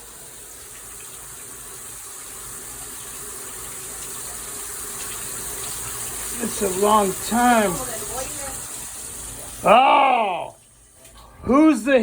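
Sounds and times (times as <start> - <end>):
water gushing and spraying: 0.0 - 10.9.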